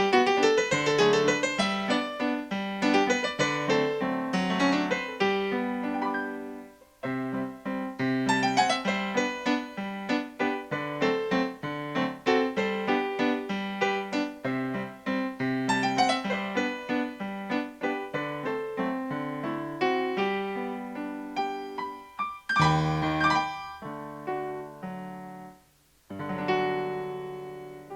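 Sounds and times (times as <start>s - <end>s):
solo piano music: 0.0s - 27.9s.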